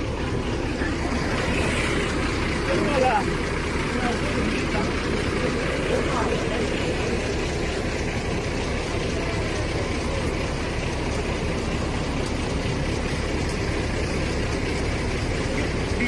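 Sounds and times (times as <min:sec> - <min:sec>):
heavy vehicle engine idling: 0:00.0 - 0:16.0.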